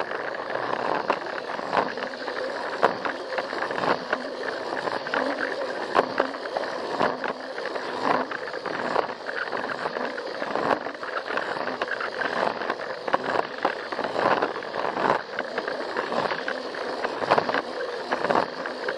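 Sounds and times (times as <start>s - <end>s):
toy train motor whirring: 0.0s - 18.9s.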